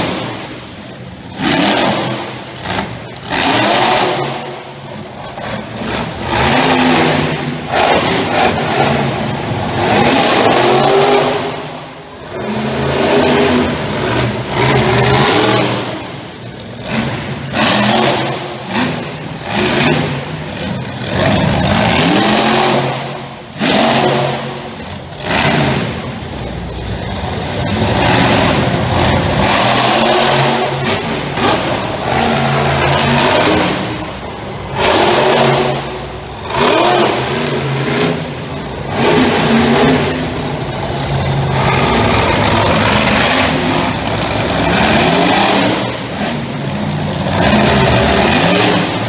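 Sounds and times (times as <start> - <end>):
truck engine revving: 0.0 - 49.0.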